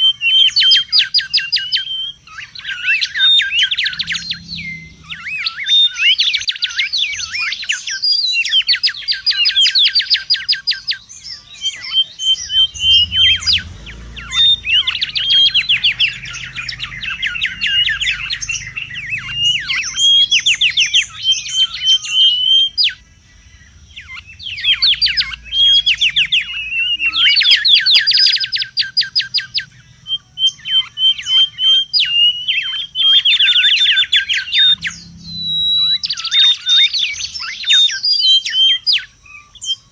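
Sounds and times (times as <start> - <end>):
bird whistling trills: 0.0 - 39.9
faint low hum: 0.3 - 9.5, 11.0 - 39.8.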